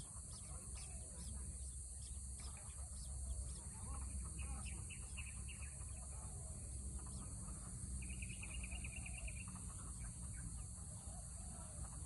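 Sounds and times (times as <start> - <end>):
birds chirping: 0.0 - 12.0
high insect drone: 0.0 - 12.0
rapid bird trill: 0.0 - 12.0.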